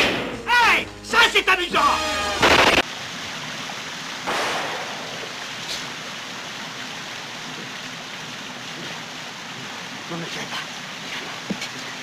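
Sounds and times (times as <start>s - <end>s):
water fountains splashing: 2.1s - 12.0s.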